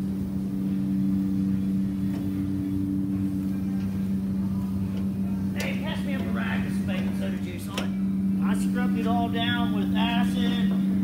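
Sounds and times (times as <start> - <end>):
higher machine tone: 0.0 - 11.0
shop machine hum: 0.0 - 11.0.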